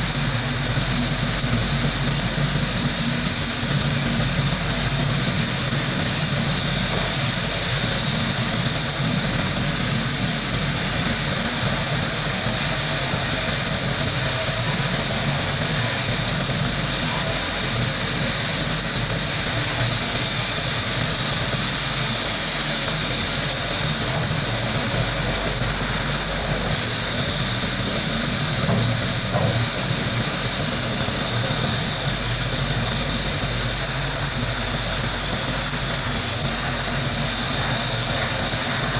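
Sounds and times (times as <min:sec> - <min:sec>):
sandblaster hissing: 0:00.0 - 0:38.9.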